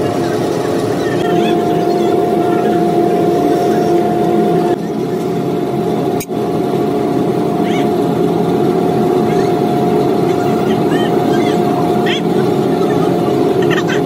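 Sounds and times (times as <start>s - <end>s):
constant motor whine: 0.0s - 14.0s
motor humming: 0.0s - 14.0s.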